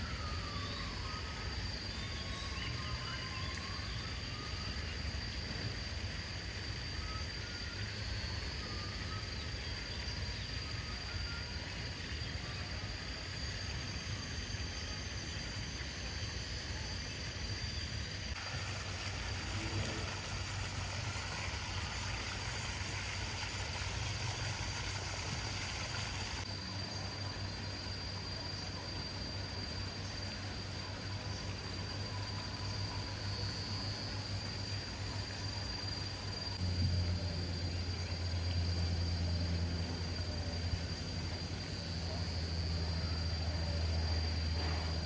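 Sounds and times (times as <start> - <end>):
even hiss: 0.0 - 45.0
thin constant high tone: 0.0 - 45.0.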